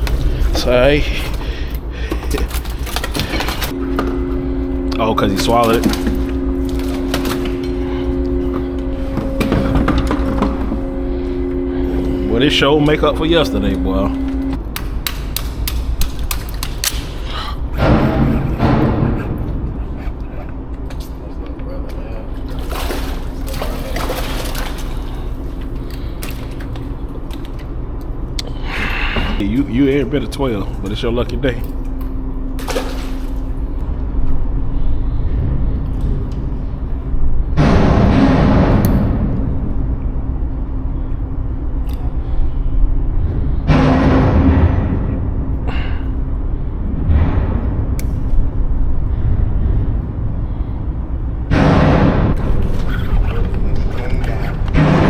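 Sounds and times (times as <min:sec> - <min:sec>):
low rumble: 0:00.0 - 0:55.0.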